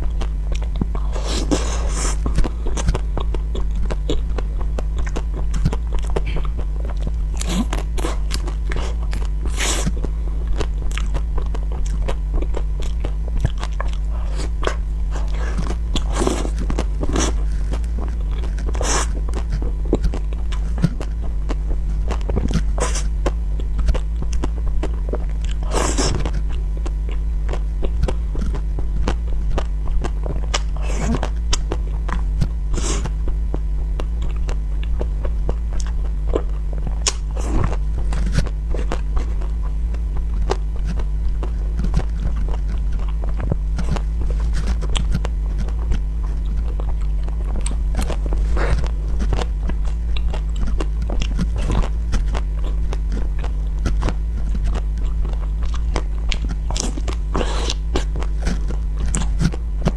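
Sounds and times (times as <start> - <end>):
chewing with mouth smacks: 0.0 - 59.9
low hum: 0.0 - 59.9.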